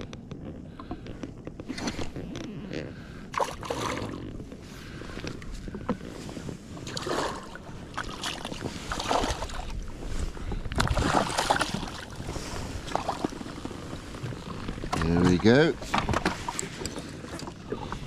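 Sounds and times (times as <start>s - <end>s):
water splashing against a jet ski: 0.0s - 18.0s
wind on microphone: 0.0s - 18.0s.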